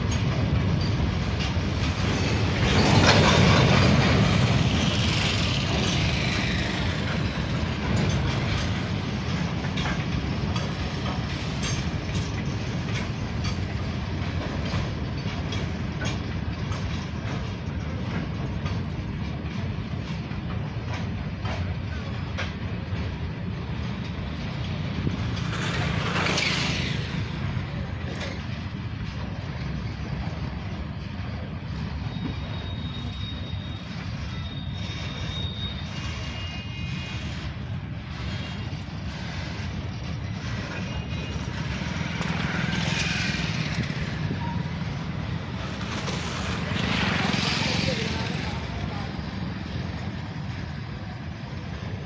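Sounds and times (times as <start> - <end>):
wheels clicking over rail joints: 0.0 - 36.5, 37.2 - 52.0
freight train rumbling past: 0.0 - 52.0.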